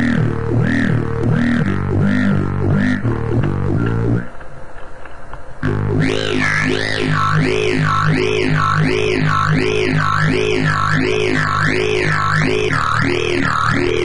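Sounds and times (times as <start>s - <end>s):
wobbling synth bass: 0.0s - 4.4s, 5.6s - 14.0s.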